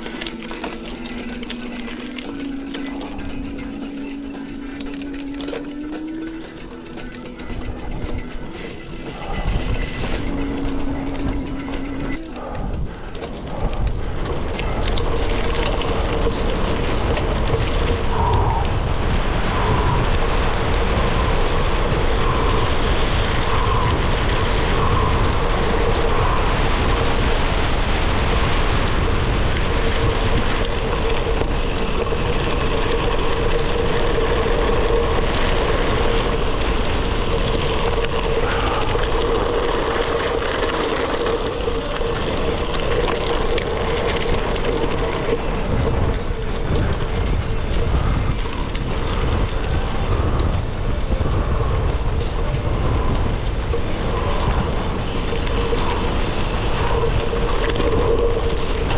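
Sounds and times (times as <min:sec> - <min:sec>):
steady hum: 0:00.0 - 0:58.9
wind buffeting microphone: 0:00.0 - 0:58.9.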